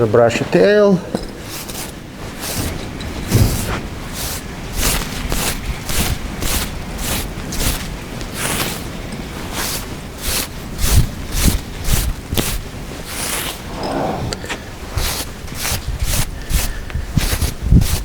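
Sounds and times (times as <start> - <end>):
brush sweeping through hair: 1.4 - 18.0.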